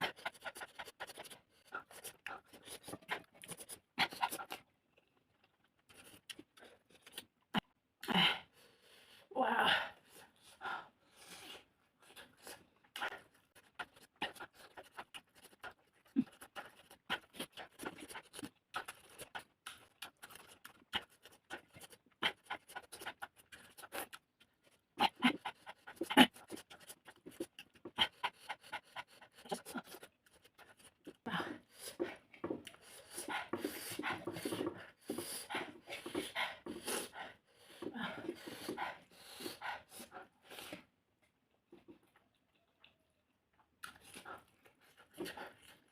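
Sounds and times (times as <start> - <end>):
quick panting breaths: 0.0 - 4.6, 8.2 - 40.9
lip-smacking and chewing: 0.0 - 7.8, 11.2 - 45.9.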